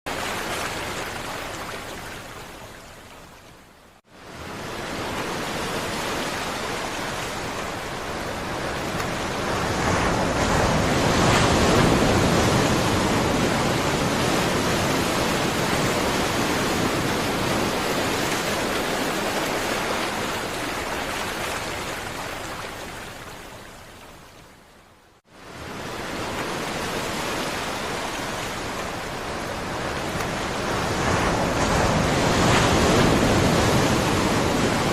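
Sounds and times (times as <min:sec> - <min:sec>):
wind: 0:00.0 - 0:34.9
rough sea: 0:00.1 - 0:34.9.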